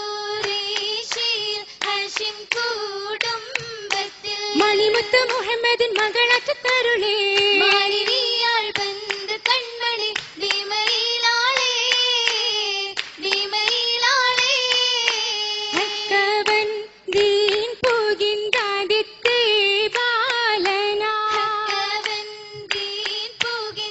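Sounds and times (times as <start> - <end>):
girls singing together: 0.0 - 23.9
hand claps: 0.4 - 23.9.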